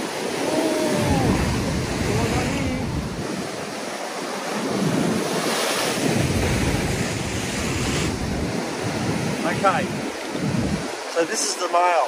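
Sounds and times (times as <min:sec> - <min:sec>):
wind buffeting microphone: 0:00.0 - 0:11.4
waves breaking on rocks: 0:00.0 - 0:12.0.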